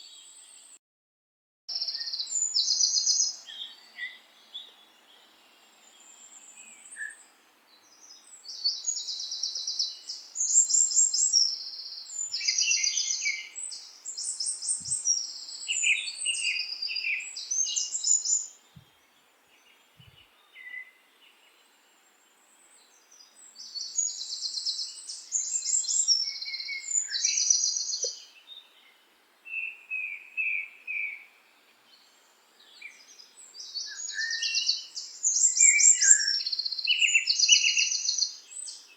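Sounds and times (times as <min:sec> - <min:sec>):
songbird trills and chirps: 0:01.7 - 0:38.9.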